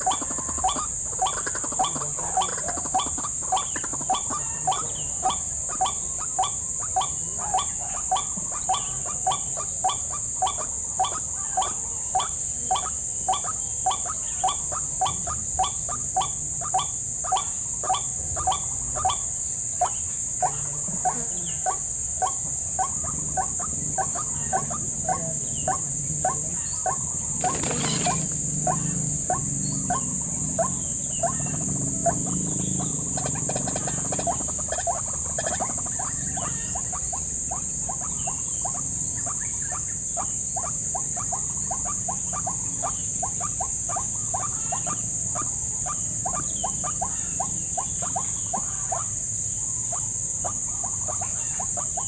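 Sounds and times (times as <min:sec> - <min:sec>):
waterhen calling: 0:00.0 - 0:49.2
high-pitched insect buzz: 0:00.0 - 0:52.0.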